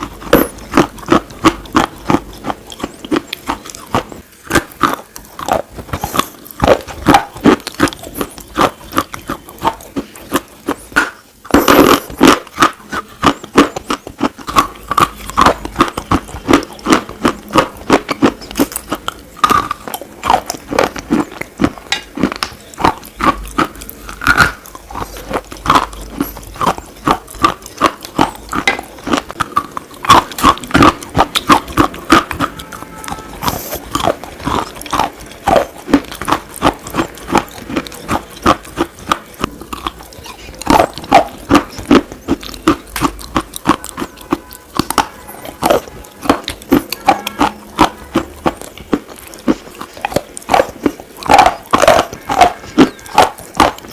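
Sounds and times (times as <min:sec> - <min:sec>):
crunching hard brittle slate: 0:00.0 - 0:53.9.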